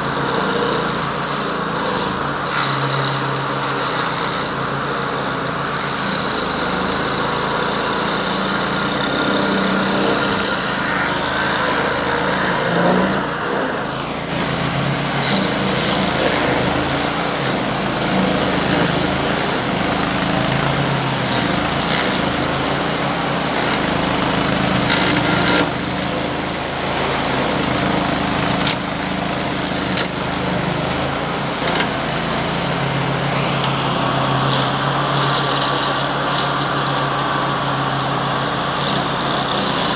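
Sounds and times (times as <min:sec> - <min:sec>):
cutting wheel grinding stump: 0:00.0 - 0:39.9.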